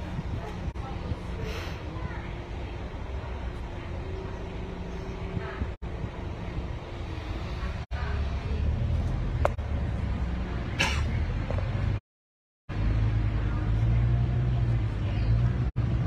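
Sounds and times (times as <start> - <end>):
bus engine and road rumble: 0.0 - 12.0, 12.7 - 16.0.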